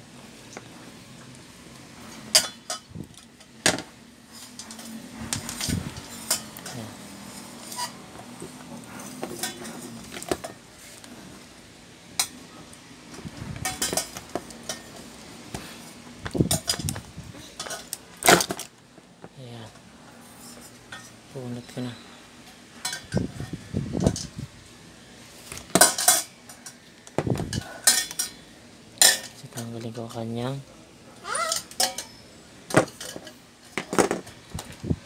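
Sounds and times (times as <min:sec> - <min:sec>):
fan parts clicking and clinking: 0:00.4 - 0:24.5, 0:25.4 - 0:30.6, 0:31.4 - 0:35.0.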